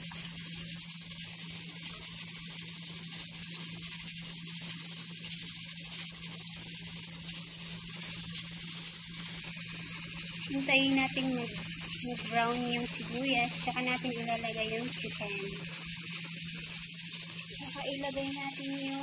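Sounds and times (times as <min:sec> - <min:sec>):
onion sizzling in oil: 0:00.0 - 0:19.0.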